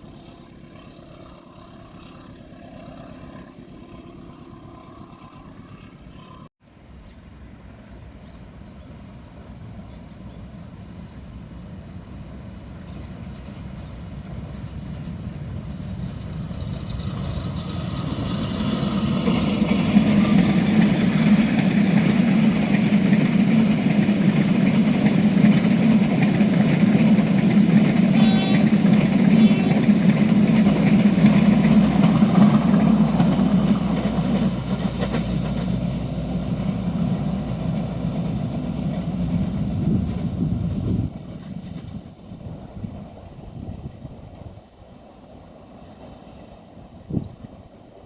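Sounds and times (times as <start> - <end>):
diesel train rumbling: 0.0 - 48.0.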